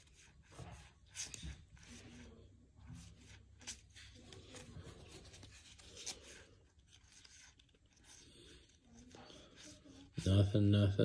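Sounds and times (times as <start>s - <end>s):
cards sliding and rubbing: 0.0s - 10.4s.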